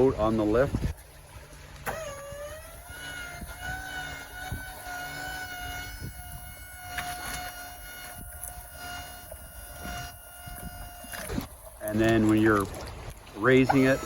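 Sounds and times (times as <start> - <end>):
pump motor whining: 0.0 - 14.0
pump motor click: 1.7 - 14.0.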